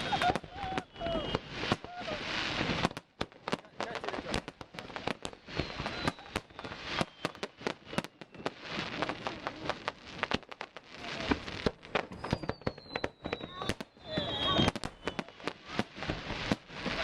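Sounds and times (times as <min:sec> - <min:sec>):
fireworks crackling pops: 0:00.0 - 0:17.0
fireworks falling whistles: 0:00.0 - 0:17.0.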